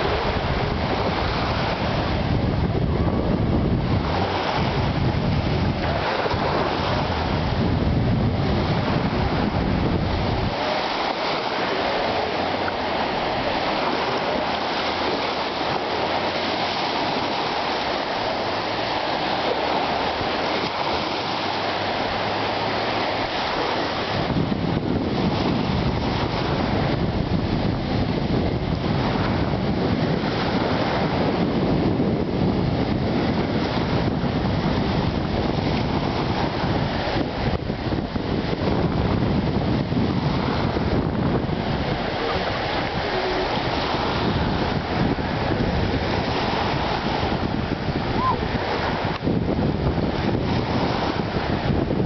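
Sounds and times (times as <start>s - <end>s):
surf waves breaking on shore: 0.0s - 52.0s
wind buffeting microphone: 0.0s - 52.0s.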